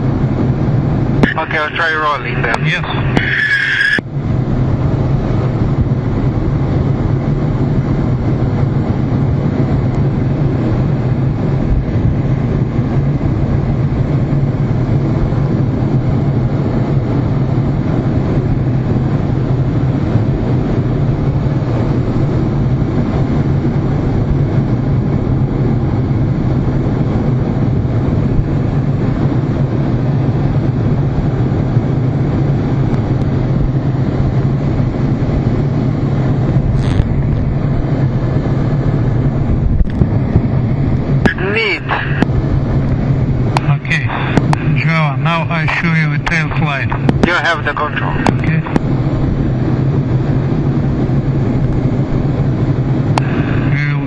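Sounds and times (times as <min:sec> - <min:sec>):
constant low hum: 0:00.0 - 0:54.0
jet engine and airflow rush: 0:00.0 - 0:54.0.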